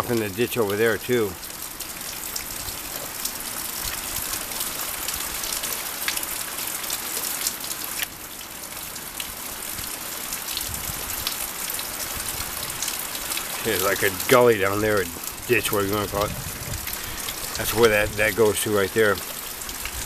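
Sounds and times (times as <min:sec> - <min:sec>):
floodwater rushing: 0:00.0 - 0:20.0
small drip-like ticks: 0:00.0 - 0:20.0.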